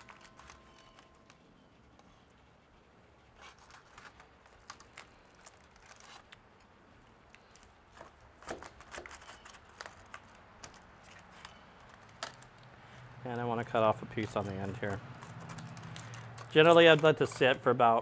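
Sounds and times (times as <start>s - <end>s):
knife on foil crinkling and scraping: 0.0s - 2.1s, 3.3s - 6.7s, 7.4s - 13.1s, 14.1s - 18.0s
crackles: 0.0s - 18.0s.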